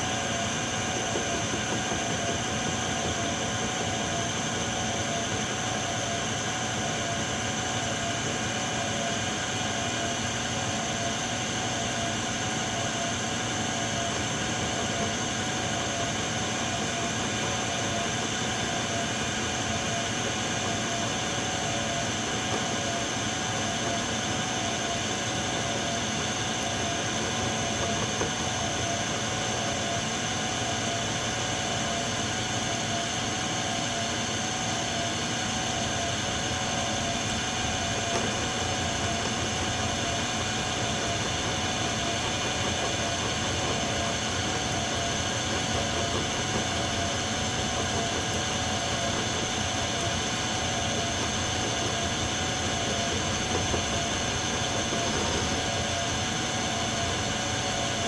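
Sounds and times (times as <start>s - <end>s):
metal lathe cutting steel: 0.0s - 58.0s.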